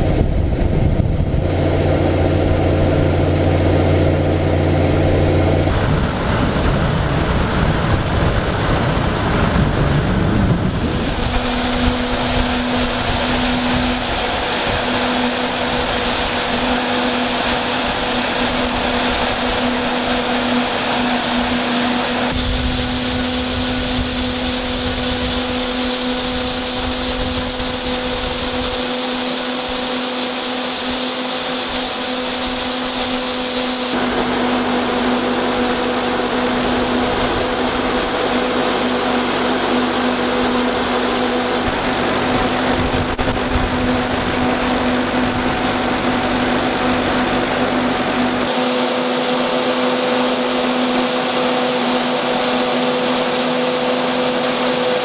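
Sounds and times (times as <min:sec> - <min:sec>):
fan whining: 0:00.0 - 0:55.0
low engine drone: 0:00.0 - 0:55.0.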